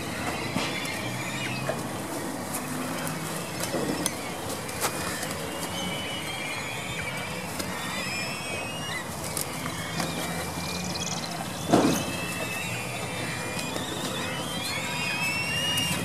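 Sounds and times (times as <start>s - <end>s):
kites whistling calls: 0.0s - 16.0s.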